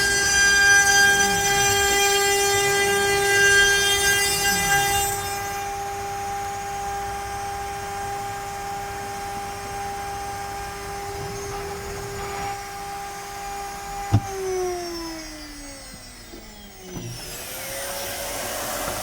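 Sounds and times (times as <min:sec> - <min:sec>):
router spindle whine cutting wood: 0:00.0 - 0:19.0.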